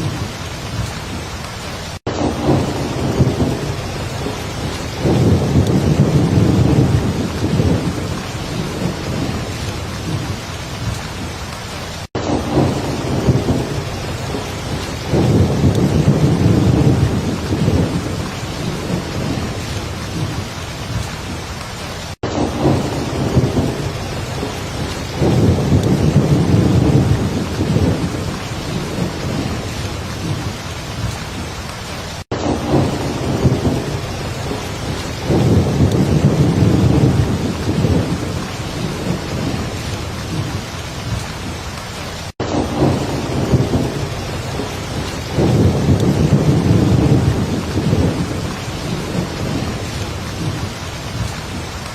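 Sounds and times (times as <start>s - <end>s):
low thunder rumbles: 0.0s - 21.6s, 22.3s - 31.6s, 32.3s - 51.9s
heavy rain: 0.0s - 51.9s.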